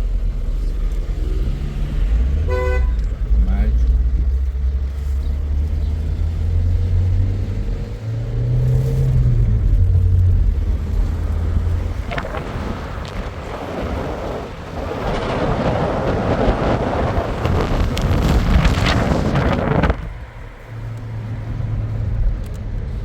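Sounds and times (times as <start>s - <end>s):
low engine drone: 0.0s - 23.0s.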